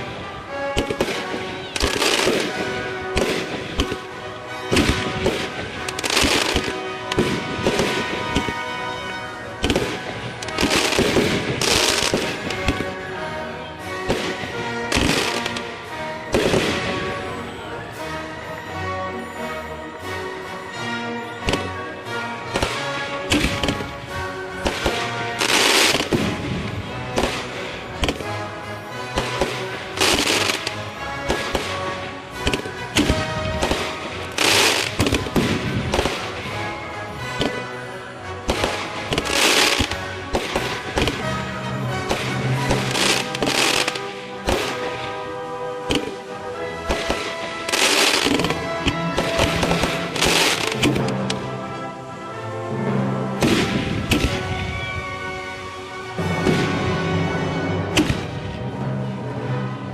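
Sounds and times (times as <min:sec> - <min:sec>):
fireworks banging and crackling: 0:00.0 - 0:52.0, 0:53.3 - 0:59.6
background music: 0:00.0 - 0:59.9.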